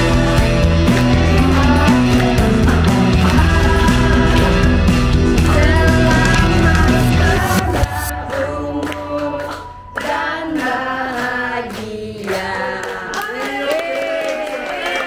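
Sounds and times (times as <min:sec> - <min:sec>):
group singing birthday song: 0:00.0 - 0:15.0
hand clapping: 0:00.0 - 0:15.0.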